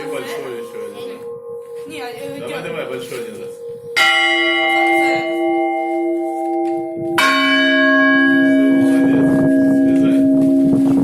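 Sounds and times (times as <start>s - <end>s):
church bells ringing: 0.0s - 11.0s
deeper bell ringing loudly: 0.0s - 11.0s.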